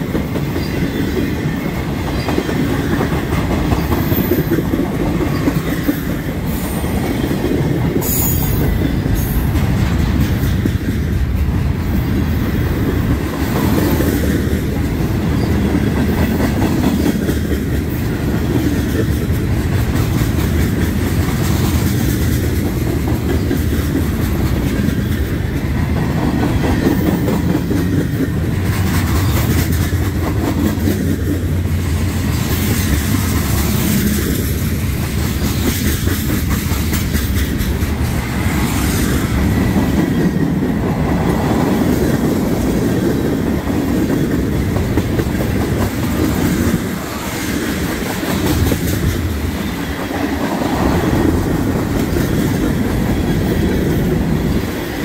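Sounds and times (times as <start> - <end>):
freight train rolling past: 0.0 - 55.0
wheels clicking on rails: 0.0 - 55.0.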